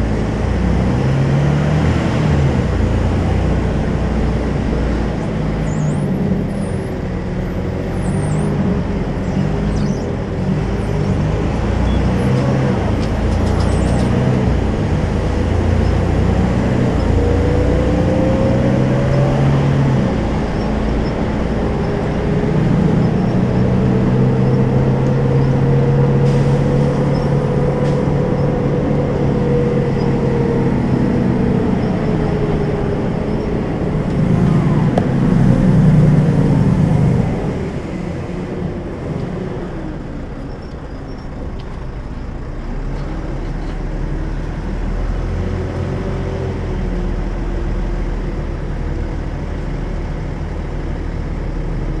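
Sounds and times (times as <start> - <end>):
bus diesel engine running: 0.0 - 52.0.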